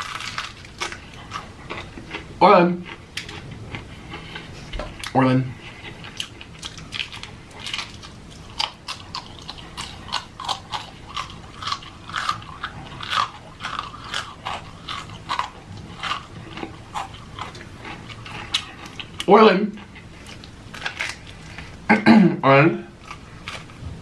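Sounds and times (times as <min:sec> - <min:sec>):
person chewing crunchy food: 0:00.0 - 0:22.0, 0:22.9 - 0:24.0.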